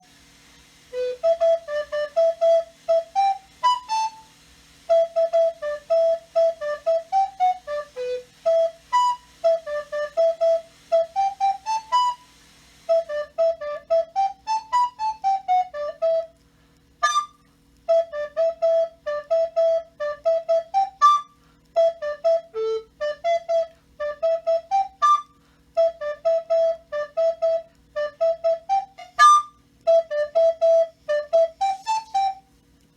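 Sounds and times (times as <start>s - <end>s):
recorder playing a quick tune: 0.8s - 16.4s, 17.0s - 32.5s.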